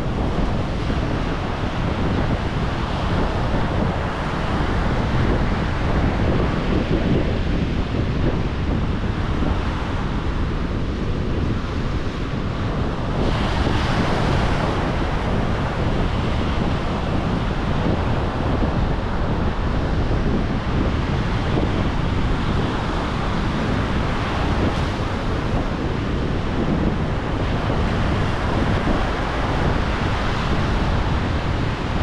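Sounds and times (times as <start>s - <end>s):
ocean surf washing: 0.0s - 32.0s
wind rumbling on microphone: 0.0s - 32.0s.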